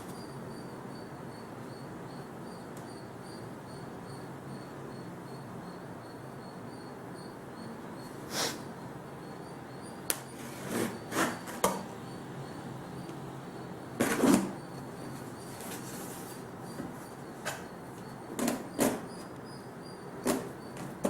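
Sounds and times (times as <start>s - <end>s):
faint pulsing high chirps: 0.0s - 21.0s
steady background hiss: 0.0s - 21.0s.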